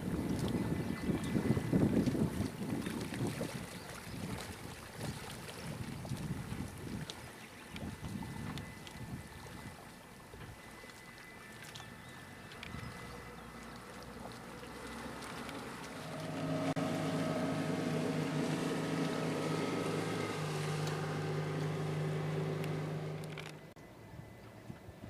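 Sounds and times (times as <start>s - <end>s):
outboard motor running: 0.0s - 23.8s
water noise: 0.0s - 25.0s.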